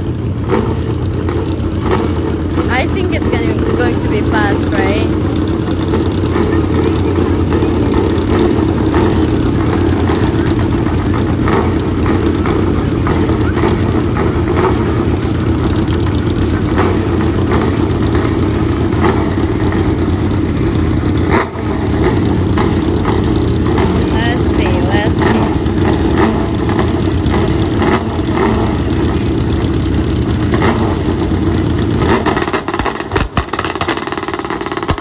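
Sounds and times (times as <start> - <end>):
car engine running steadily: 0.0 - 35.0.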